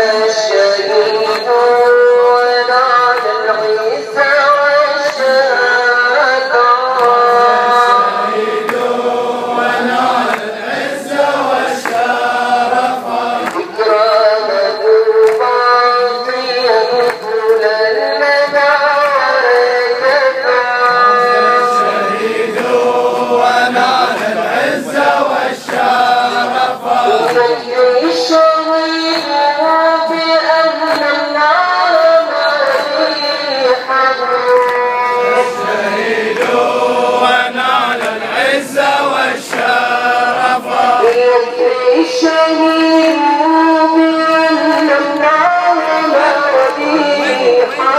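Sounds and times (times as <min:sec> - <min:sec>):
person chanting mourning song: 0:00.0 - 0:47.9.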